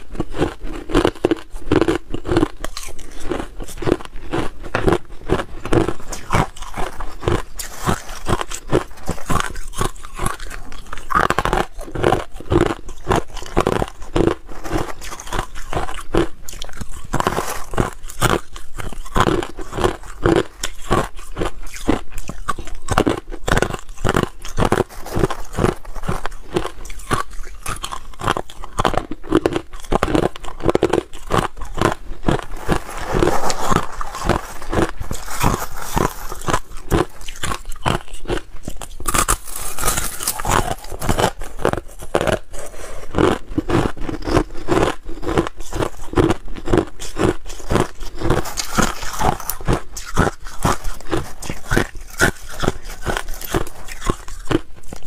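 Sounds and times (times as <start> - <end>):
crushed ice being chewed: 0.0 - 55.0.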